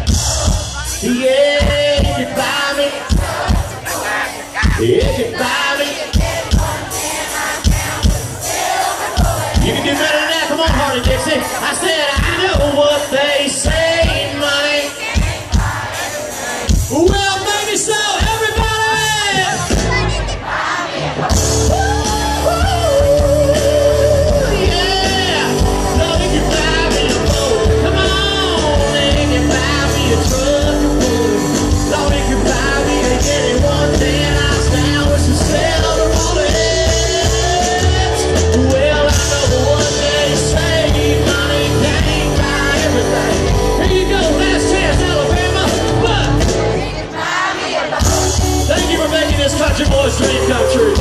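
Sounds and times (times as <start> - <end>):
amplified singing: 0.0 - 18.3, 19.0 - 51.0
live country band playing: 0.0 - 51.0.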